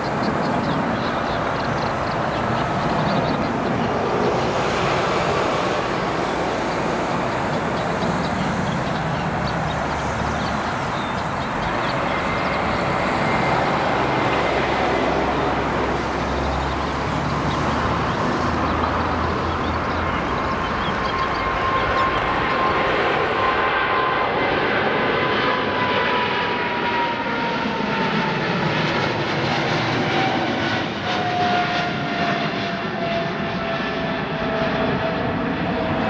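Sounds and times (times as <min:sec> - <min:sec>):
jet airliner taking off: 0:00.0 - 0:36.0.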